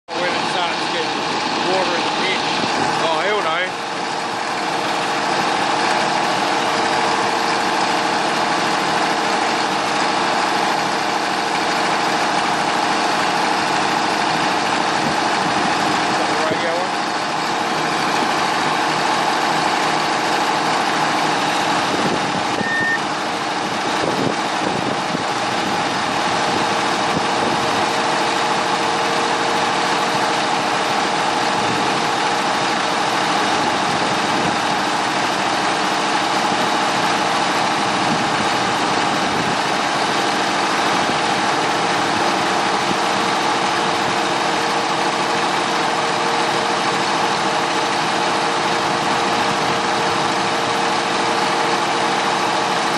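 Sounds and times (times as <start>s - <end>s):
diesel locomotive engine droning: 0.1s - 52.9s.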